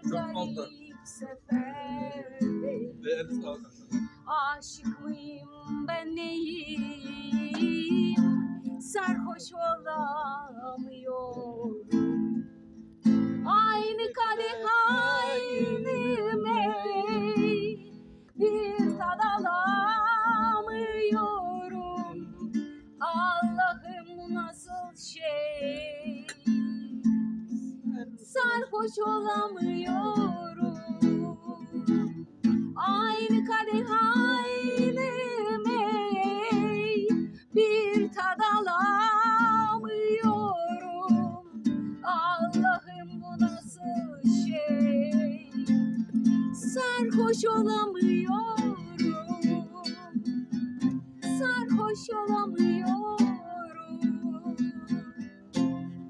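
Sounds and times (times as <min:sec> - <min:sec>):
woman singing with vibrato: 0:00.0 - 0:03.0, 0:04.2 - 0:12.3, 0:13.4 - 0:27.1, 0:28.2 - 0:50.3, 0:51.2 - 0:55.3
strummed acoustic guitar: 0:00.0 - 0:56.0.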